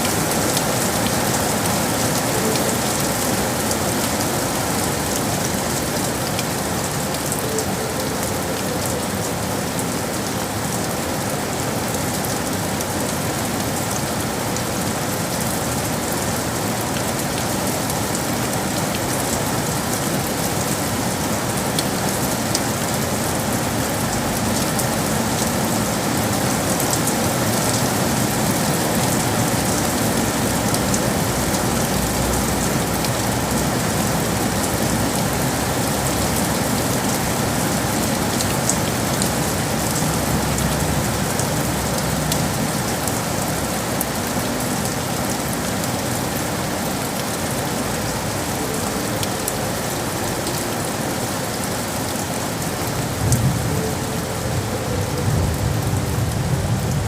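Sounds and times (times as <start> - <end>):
rain on hard surfaces: 0.0 - 57.0.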